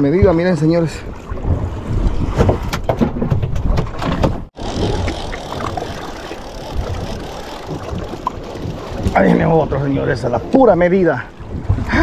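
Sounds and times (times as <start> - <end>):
water slapping boat hull: 0.0 - 12.0
wind buffeting microphone: 0.2 - 12.0.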